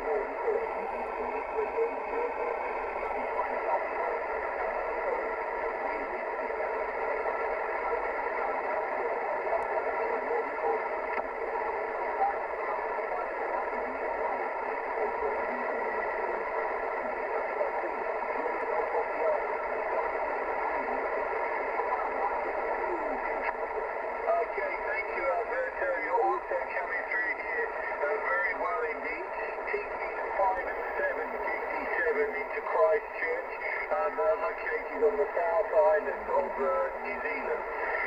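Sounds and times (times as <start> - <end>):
radio band noise hiss: 0.0 - 38.0
weak voice on radio: 0.0 - 38.0.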